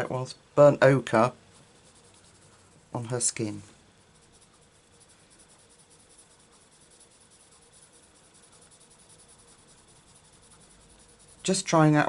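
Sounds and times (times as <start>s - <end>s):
pencil scratching on paper: 1.5s - 12.0s.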